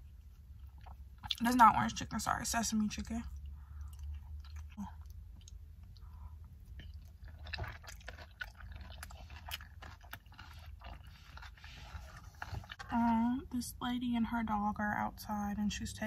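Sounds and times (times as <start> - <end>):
person chewing crunchy food: 0.0 - 13.2.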